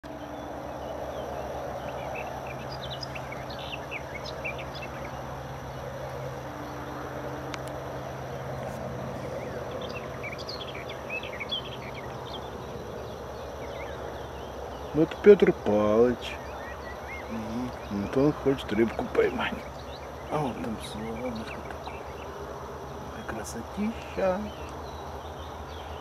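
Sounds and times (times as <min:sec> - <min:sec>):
outdoor ambience hum and hiss: 0:00.0 - 0:26.0
small birds chirping: 0:00.0 - 0:26.0.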